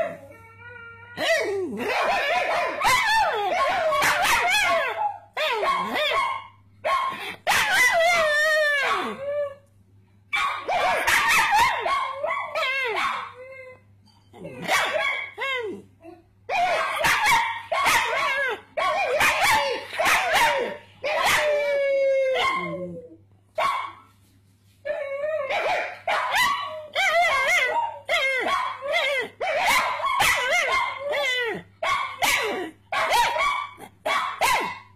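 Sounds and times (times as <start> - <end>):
dog yelping and howling: 0.0 - 9.6, 10.4 - 23.2, 24.9 - 34.9.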